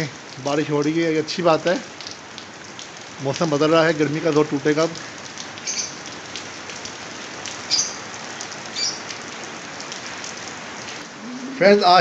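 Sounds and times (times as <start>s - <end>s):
heavy rain on hard ground: 0.0s - 12.0s.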